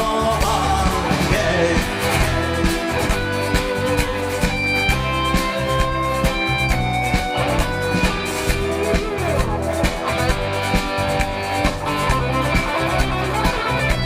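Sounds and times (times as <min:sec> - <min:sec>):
bass guitar: 0:00.0 - 0:14.0
drum kit beat: 0:00.0 - 0:14.0
electric guitars: 0:00.0 - 0:14.0
lead guitar sliding down: 0:00.0 - 0:14.0.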